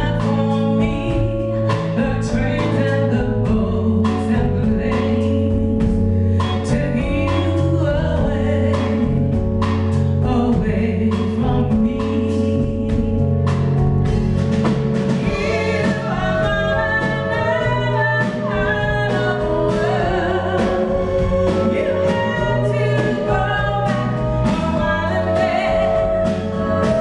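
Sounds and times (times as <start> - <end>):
woman singing: 0.0 - 13.6, 15.2 - 27.0
bass: 0.0 - 27.0
drum kit beat: 0.0 - 27.0.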